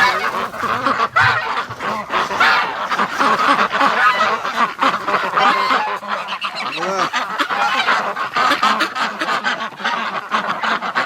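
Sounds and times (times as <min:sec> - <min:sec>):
ducks calling: 0:00.0 - 0:11.0
geese honking: 0:00.0 - 0:11.0.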